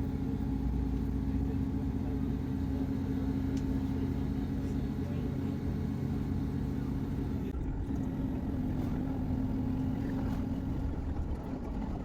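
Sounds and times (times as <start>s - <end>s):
rail running rumble: 0.0s - 12.0s
train engine hum: 0.0s - 12.0s.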